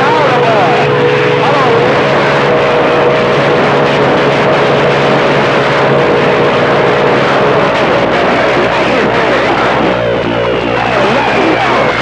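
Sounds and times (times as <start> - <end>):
low hum: 0.0 - 12.0
radio static hiss: 0.0 - 12.0.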